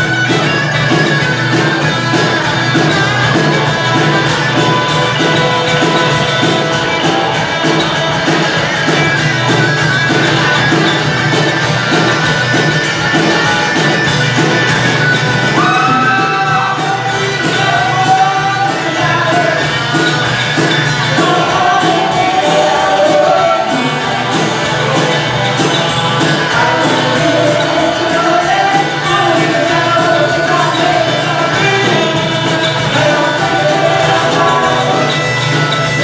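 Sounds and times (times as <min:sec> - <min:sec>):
woman singing lead: 0:00.0 - 0:09.2, 0:15.4 - 0:36.0
acoustic and electric guitars: 0:00.0 - 0:36.0
drum kit: 0:00.0 - 0:36.0.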